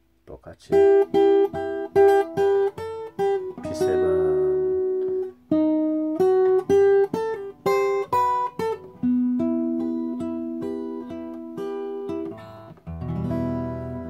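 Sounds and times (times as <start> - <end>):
fingerstyle acoustic guitar: 0.7 - 14.0.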